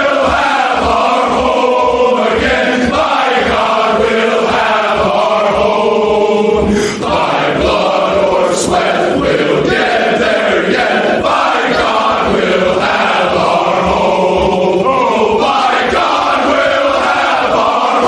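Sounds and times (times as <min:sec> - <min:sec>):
low drum beat: 0:00.0 - 0:18.0
male choir chanting: 0:00.0 - 0:18.0.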